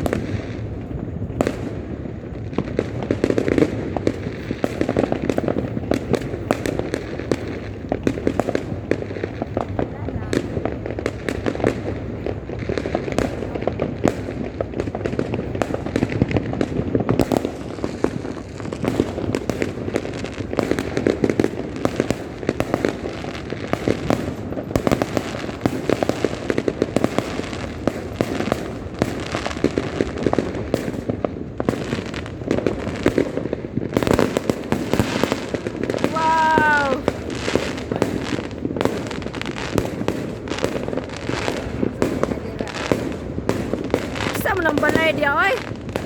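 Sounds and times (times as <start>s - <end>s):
fireworks cracking and popping: 0.0s - 46.0s
rumble of distant explosions: 0.0s - 46.0s.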